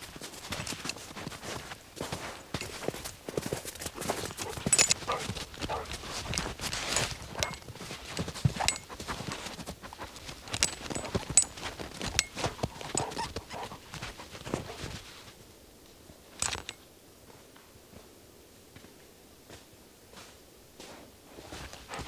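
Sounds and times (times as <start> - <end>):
footsteps crunching through snow: 0.0 - 15.4, 19.5 - 22.0.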